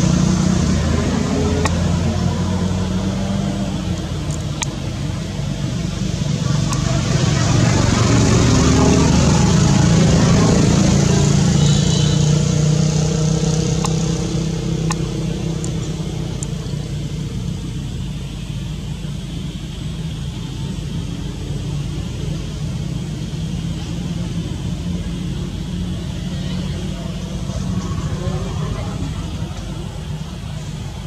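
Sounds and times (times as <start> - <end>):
vehicle engine droning past: 0.0 - 31.0.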